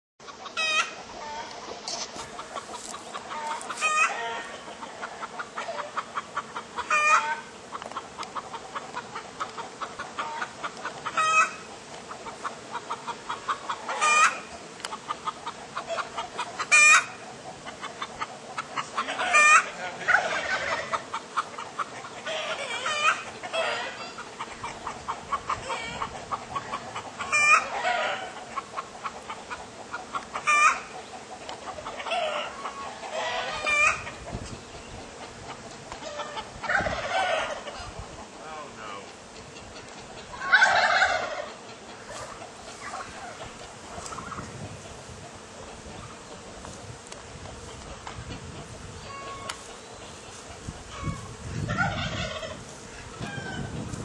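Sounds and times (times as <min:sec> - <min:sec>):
loud sharp poultry call: 0:00.2 - 0:07.8, 0:08.4 - 0:34.2, 0:36.0 - 0:38.6, 0:39.3 - 0:45.0, 0:47.6 - 0:53.8
poultry clucking: 0:00.2 - 0:54.0.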